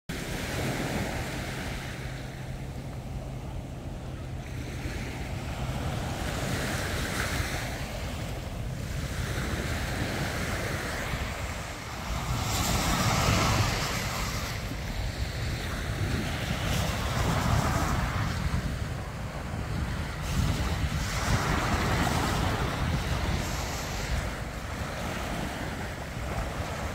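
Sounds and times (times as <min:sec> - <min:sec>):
waves breaking on beach: 0:00.1 - 0:26.9
wind buffeting microphone: 0:00.1 - 0:26.9.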